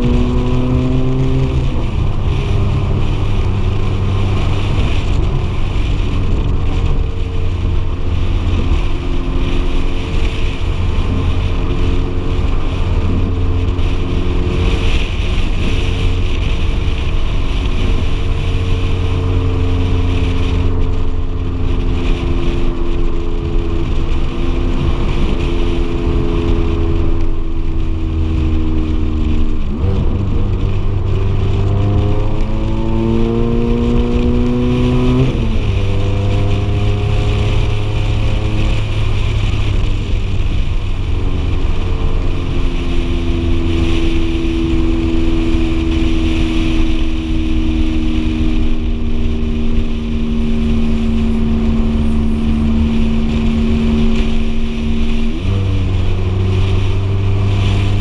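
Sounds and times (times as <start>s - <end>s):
car engine: 0.0s - 58.0s
wind and road noise: 0.0s - 58.0s.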